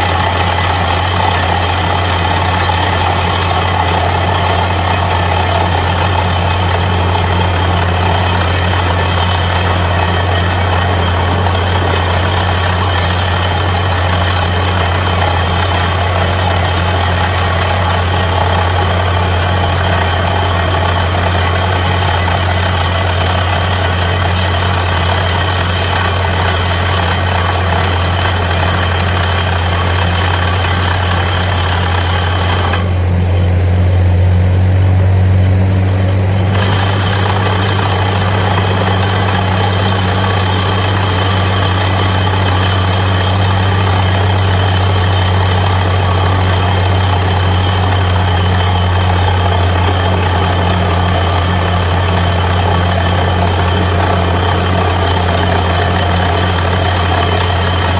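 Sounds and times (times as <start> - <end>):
drilling rig deep engine hum: 0.0 - 57.9
higher whining tones: 0.0 - 57.9.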